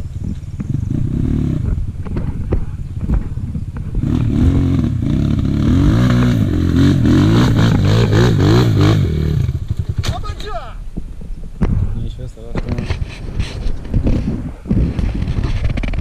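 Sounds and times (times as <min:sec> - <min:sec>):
motorcycle engine revving: 0:00.0 - 0:10.2, 0:12.7 - 0:16.0.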